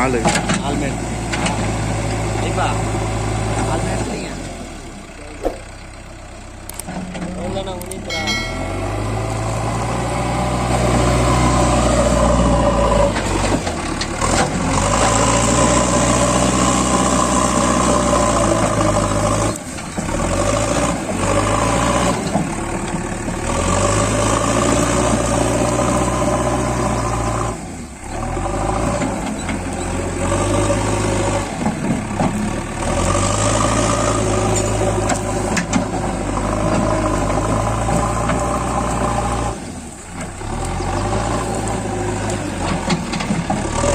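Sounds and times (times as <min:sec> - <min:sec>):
diesel engine working under load: 0:00.0 - 0:43.9.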